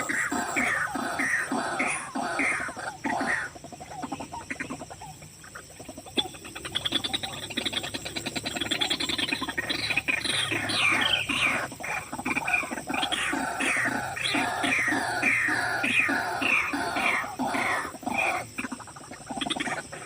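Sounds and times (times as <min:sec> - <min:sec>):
waterhens calling: 0:00.0 - 0:20.0.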